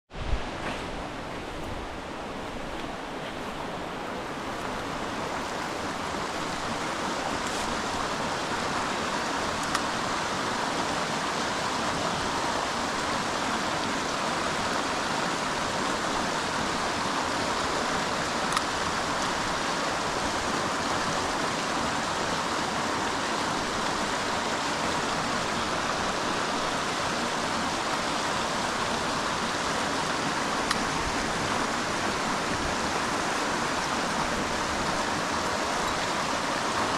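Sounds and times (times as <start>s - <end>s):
creek water flowing: 0.1s - 36.9s.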